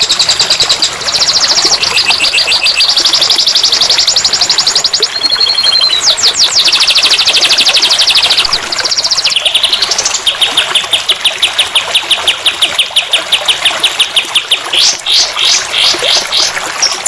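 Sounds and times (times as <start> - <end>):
songbird trilling and whistling: 0.0 - 17.0.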